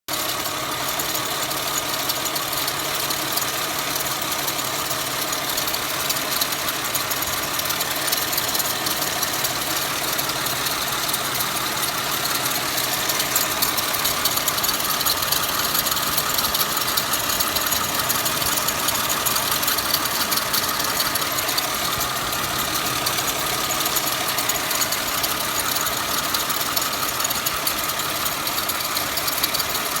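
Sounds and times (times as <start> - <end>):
car engine running: 0.1 - 30.0
pulley bearing noise: 0.1 - 30.0.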